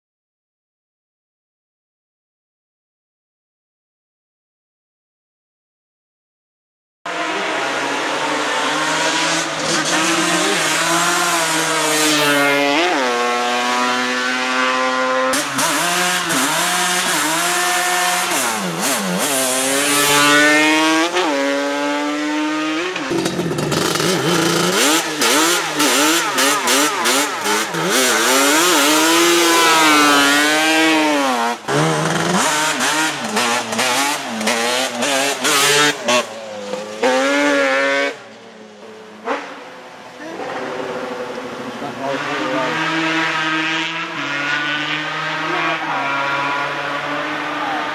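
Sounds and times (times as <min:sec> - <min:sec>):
two-stroke engine revving: 0:07.1 - 0:38.3, 0:40.2 - 0:47.9.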